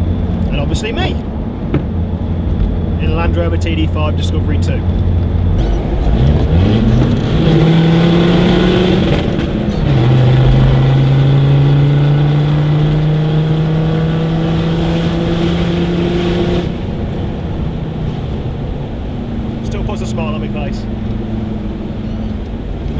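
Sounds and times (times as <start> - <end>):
diesel engine accelerating: 0.0 - 22.9.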